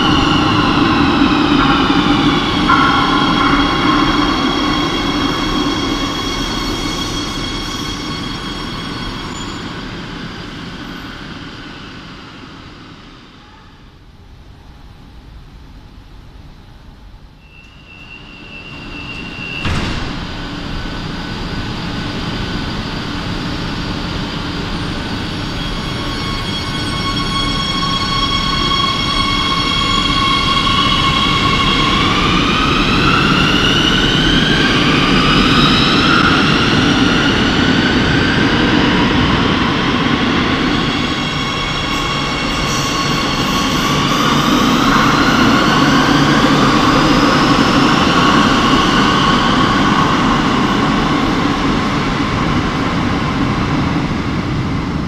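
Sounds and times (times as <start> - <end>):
electric train traction whine: 0.0 - 55.0.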